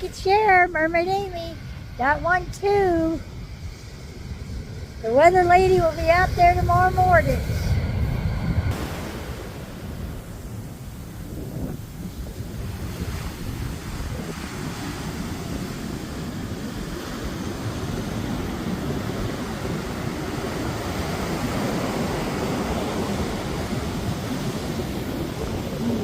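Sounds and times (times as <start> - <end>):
heavy surf waves breaking: 0.0 - 26.0
wind rumbling on microphone: 0.0 - 26.0.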